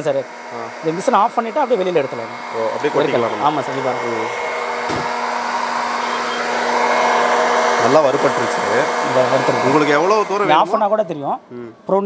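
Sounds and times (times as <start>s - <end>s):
roaster fan and motor hum: 0.0s - 12.0s.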